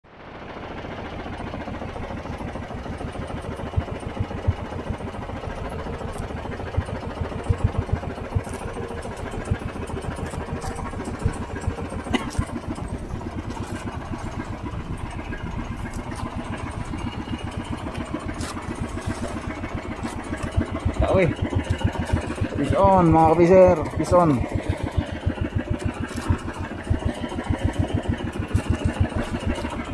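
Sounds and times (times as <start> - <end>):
boat motor running: 0.1 - 29.9.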